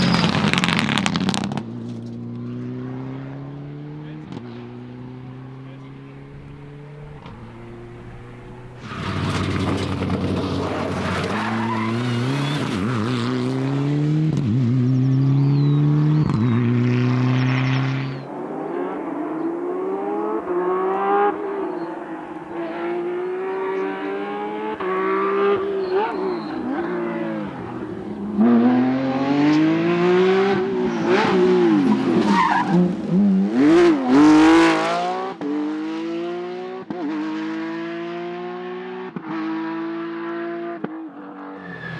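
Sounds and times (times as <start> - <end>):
engine revving with sharp cracks: 0.0 - 41.6
rally car engines at full throttle: 0.0 - 41.9.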